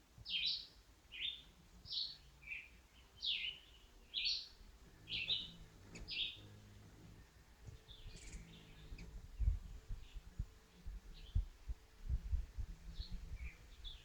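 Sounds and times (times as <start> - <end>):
bird chirping: 0.2 - 14.0.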